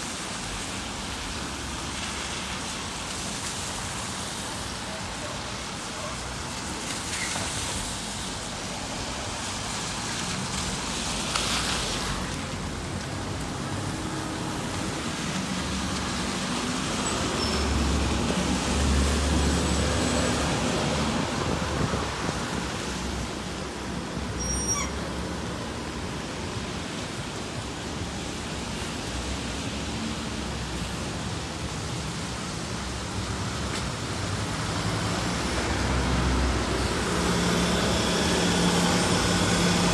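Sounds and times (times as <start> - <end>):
tyre hiss on wet road: 0.0 - 39.9
wet-road traffic noise: 0.0 - 39.9
bus engine rumble: 3.9 - 39.9.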